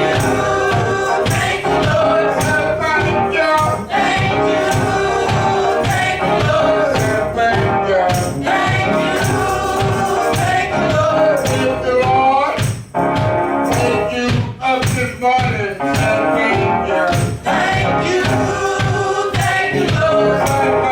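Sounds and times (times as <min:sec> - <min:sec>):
gospel worship singing: 0:00.0 - 0:20.9
tambourine jingles: 0:00.0 - 0:20.9.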